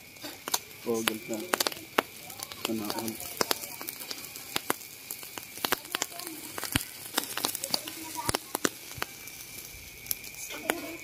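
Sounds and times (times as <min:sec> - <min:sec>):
charcoal fire crackling: 0:00.0 - 0:11.0
meat sizzling: 0:00.0 - 0:11.0.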